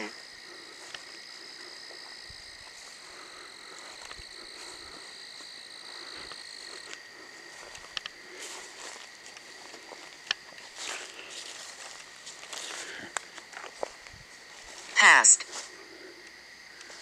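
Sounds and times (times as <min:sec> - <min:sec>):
frogs and insects trilling: 0:00.0 - 0:17.0.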